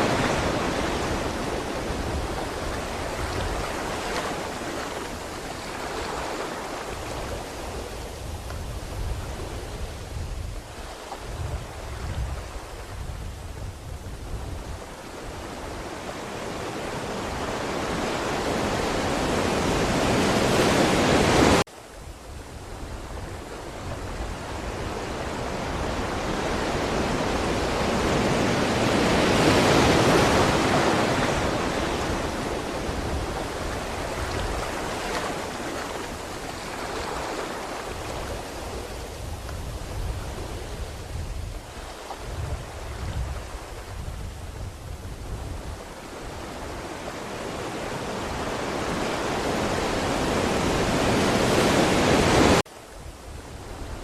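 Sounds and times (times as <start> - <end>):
ocean waves: 0.0 - 54.0.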